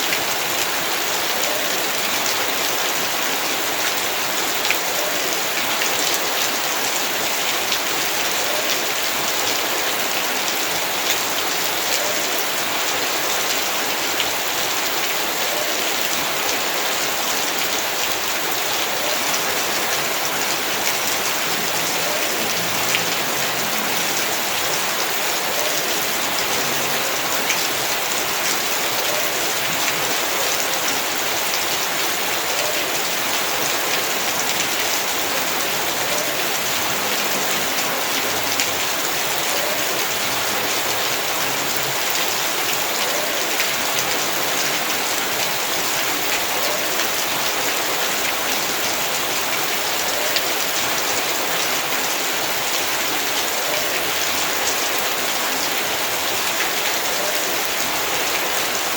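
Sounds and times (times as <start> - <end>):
heavy rain on hard surfaces: 0.0 - 58.9.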